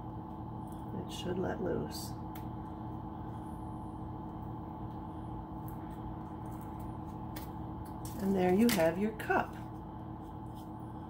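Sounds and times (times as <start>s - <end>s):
steady tonal hum: 0.0s - 11.0s.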